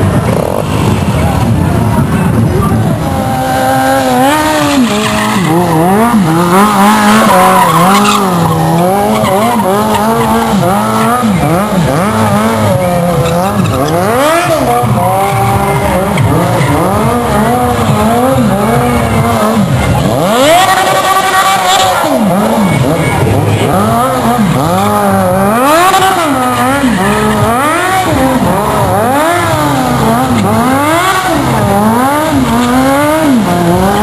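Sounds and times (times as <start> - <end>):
car tyres squealing: 0.0 - 34.0.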